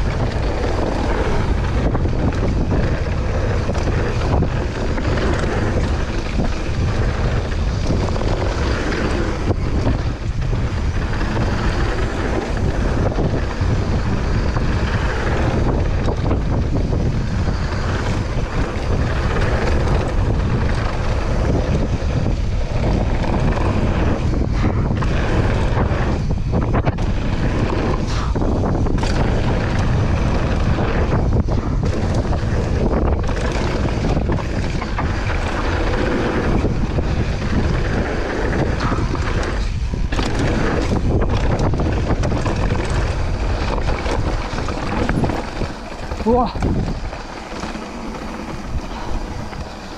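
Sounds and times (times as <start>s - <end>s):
bike tyres and frame rattling: 0.0s - 49.9s
wind rushing over microphone: 0.0s - 49.9s.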